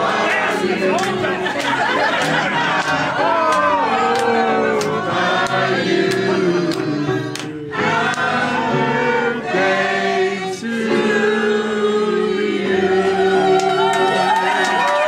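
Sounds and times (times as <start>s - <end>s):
group singing a celebration song: 0.0s - 15.0s.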